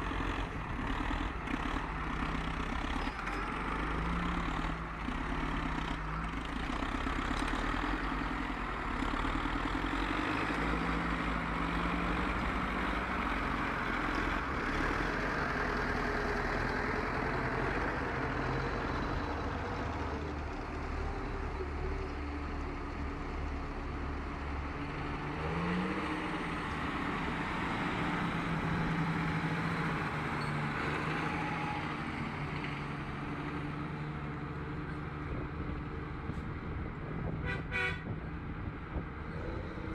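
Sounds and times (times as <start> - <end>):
tractor diesel engines droning: 0.0 - 39.9.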